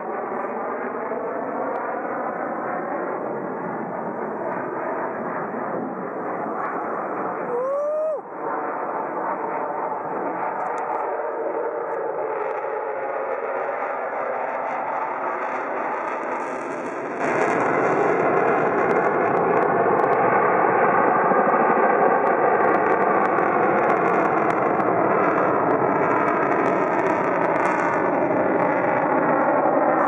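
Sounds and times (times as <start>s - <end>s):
jet engines flying past: 0.0s - 30.0s.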